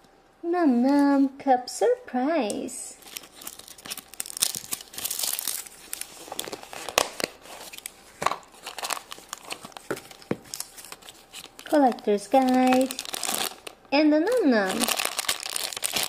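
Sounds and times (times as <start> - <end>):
plastic packaging crinkling and tearing: 3.0 - 16.0.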